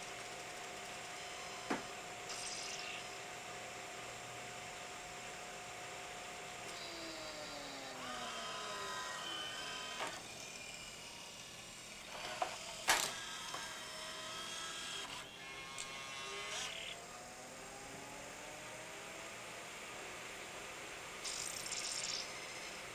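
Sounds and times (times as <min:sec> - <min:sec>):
small motors whirring: 0:00.0 - 0:05.0, 0:06.6 - 0:19.3, 0:21.2 - 0:22.9
disc motor whine: 0:00.0 - 0:22.9.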